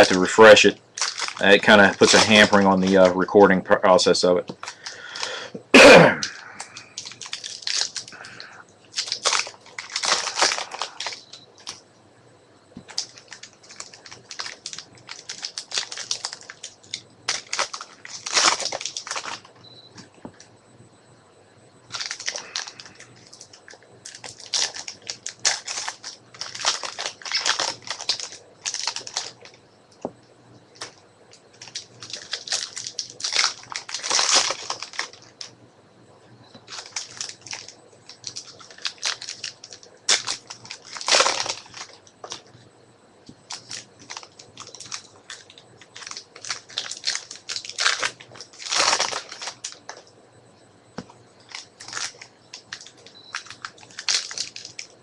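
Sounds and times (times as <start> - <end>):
foil wrappers crinkling and tearing: 0.0 - 5.5, 6.2 - 11.8, 12.8 - 19.6, 21.9 - 30.1, 30.7 - 35.5, 36.6 - 42.5, 43.4 - 50.0, 51.4 - 55.0.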